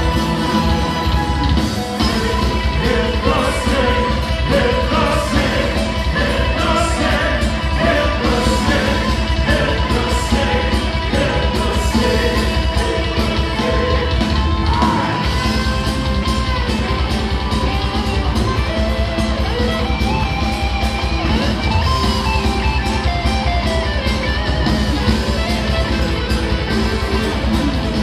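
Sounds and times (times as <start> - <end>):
electric guitars: 0.0 - 28.0
fast steady drumbeat: 0.0 - 28.0.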